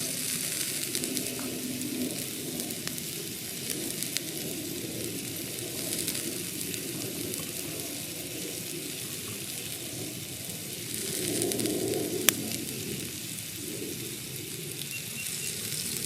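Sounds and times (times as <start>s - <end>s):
steak sizzling on griddle: 0.0s - 16.0s.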